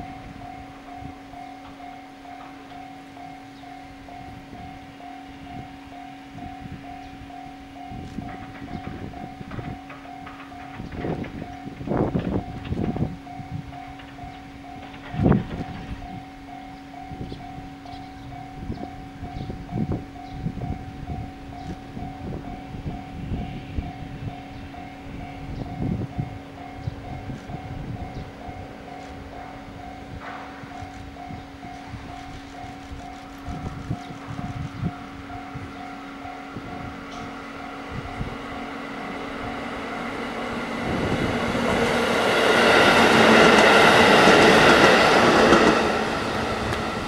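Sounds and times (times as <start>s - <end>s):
distant train rumble: 0.0s - 47.0s
level crossing warning bell: 0.0s - 47.0s.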